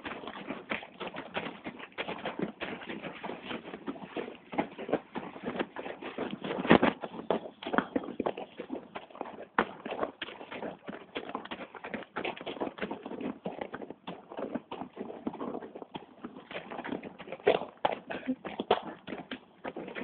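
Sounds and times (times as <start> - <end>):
horse hooves on gravel: 0.0 - 20.0.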